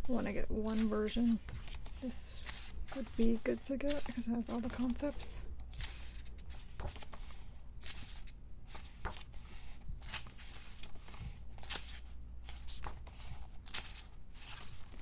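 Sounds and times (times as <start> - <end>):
pages turning: 0.1 - 15.0.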